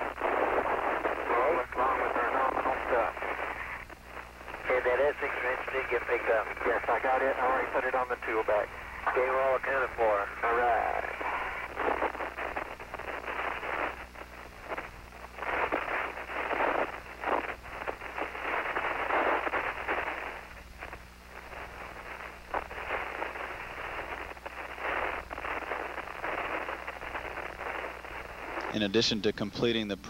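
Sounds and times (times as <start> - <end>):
radio static hiss and crackle: 0.0 - 30.0
steady low hum: 0.0 - 30.0.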